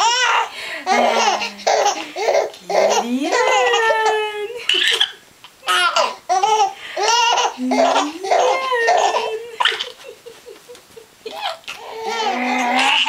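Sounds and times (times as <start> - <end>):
infant laughing: 0.0 - 13.0.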